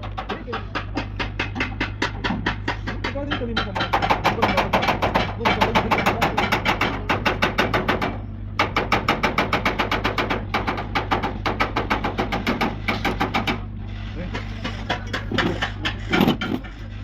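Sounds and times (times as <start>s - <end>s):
steady low hum: 0.2s - 17.0s.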